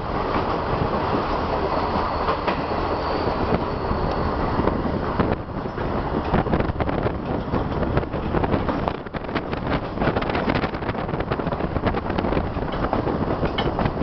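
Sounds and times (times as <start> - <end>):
train coach rattling: 0.0 - 14.0
train wheels clattering on rails: 0.0 - 14.0
wind buffeting microphone: 0.0 - 14.0.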